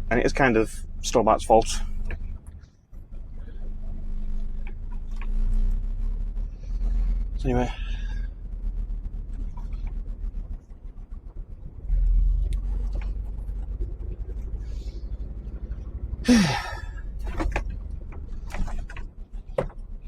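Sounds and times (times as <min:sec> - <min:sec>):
lorry engine rumbling: 0:00.0 - 0:20.0.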